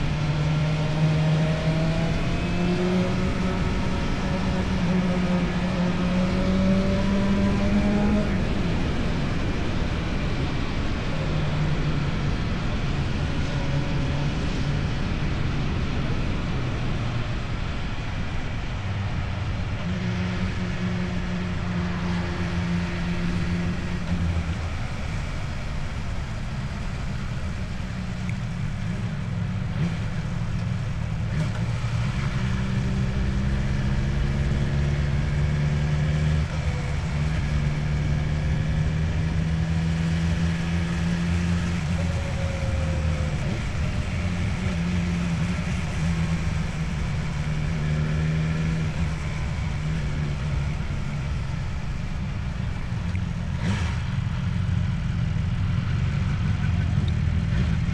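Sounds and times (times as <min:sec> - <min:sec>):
motorcycle engine: 0:00.0 - 0:57.9
wind and road noise: 0:00.0 - 0:57.9.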